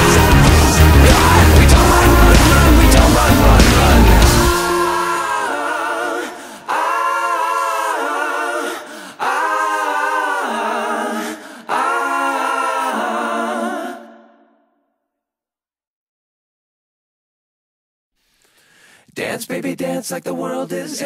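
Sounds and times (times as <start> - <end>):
sung voices with held notes: 0.0 - 14.6, 18.5 - 21.0.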